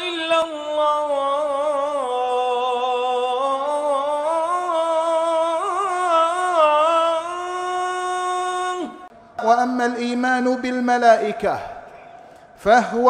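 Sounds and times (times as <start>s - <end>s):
person singing wordless melody: 0.0s - 11.9s.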